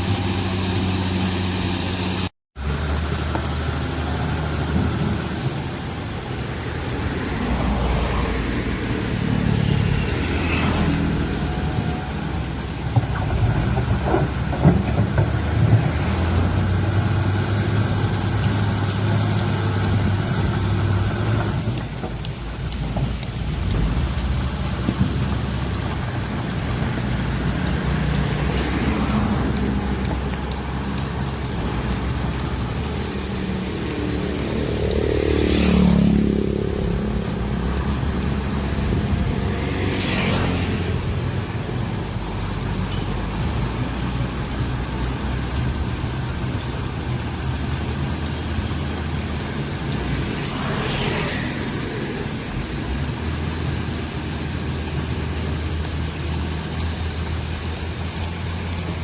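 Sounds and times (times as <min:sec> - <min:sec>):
heavy machinery engines running: 0:00.0 - 0:59.0.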